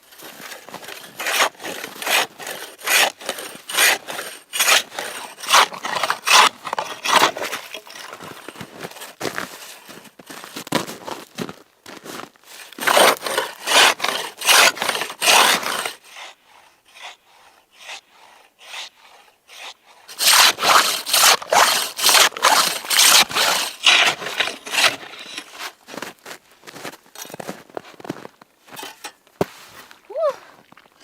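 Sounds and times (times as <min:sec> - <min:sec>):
hand saw cutting wood: 0:00.1 - 0:10.6, 0:12.5 - 0:27.6, 0:28.2 - 0:29.2.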